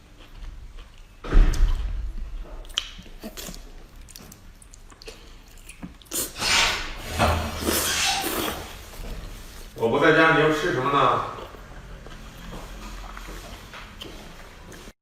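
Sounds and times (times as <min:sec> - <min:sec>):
biting and chewing: 0:00.0 - 0:09.8, 0:10.8 - 0:14.9.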